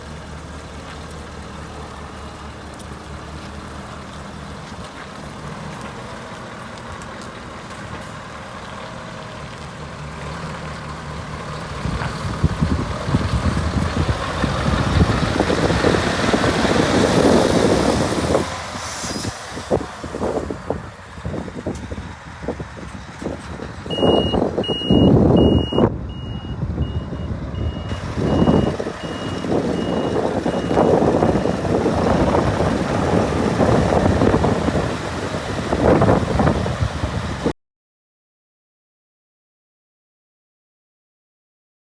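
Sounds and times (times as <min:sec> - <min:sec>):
diesel truck engine idling: 0:00.0 - 0:37.5.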